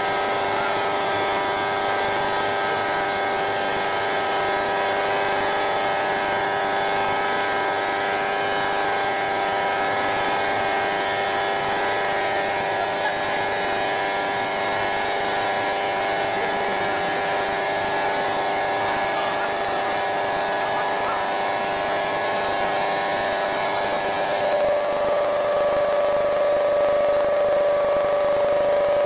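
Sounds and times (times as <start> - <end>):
stone router machine hum: 0.0 - 29.0.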